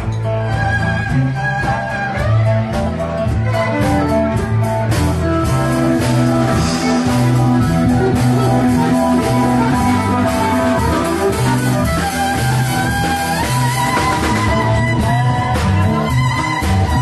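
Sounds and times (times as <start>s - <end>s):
bass line: 0.0s - 17.0s
guitar: 0.0s - 17.0s
steady drum beat: 0.0s - 17.0s.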